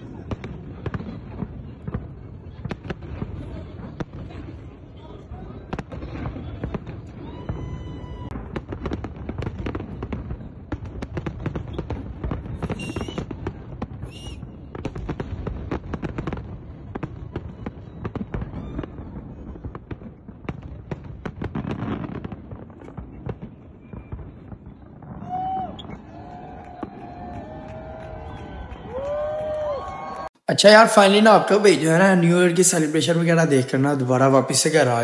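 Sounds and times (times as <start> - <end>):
fireworks whistling: 0.0 - 19.8, 21.5 - 35.0
fireworks popping and crackling: 0.0 - 35.0.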